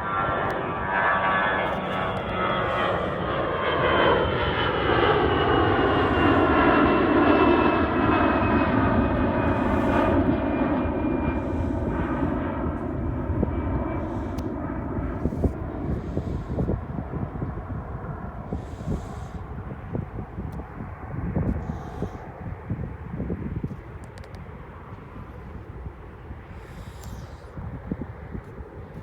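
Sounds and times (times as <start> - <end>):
jet airliner engines passing: 0.0 - 29.0.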